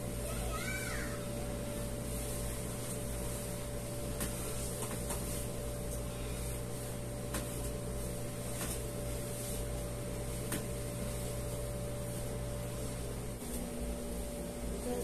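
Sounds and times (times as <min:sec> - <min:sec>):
mechanical room hum: 0:00.0 - 0:15.0.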